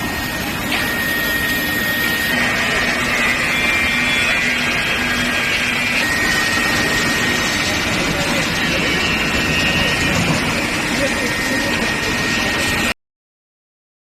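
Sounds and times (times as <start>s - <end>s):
furnace hum with high whine: 0.0s - 13.0s
higher whine: 0.0s - 13.0s.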